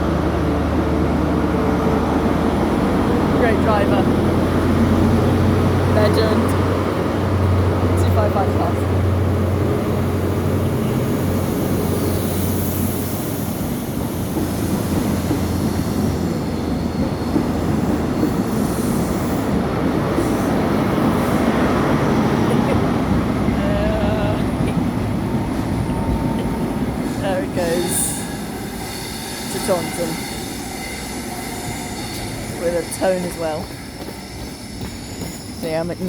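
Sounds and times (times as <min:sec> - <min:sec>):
diesel train engine hum: 0:00.0 - 0:36.0
train wheels rumbling on rails: 0:00.0 - 0:36.0.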